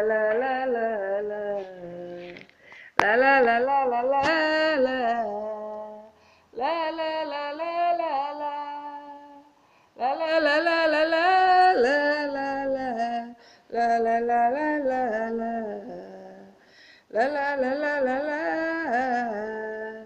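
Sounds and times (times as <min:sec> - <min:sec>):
person singing wordless melody: 0:00.0 - 0:20.0.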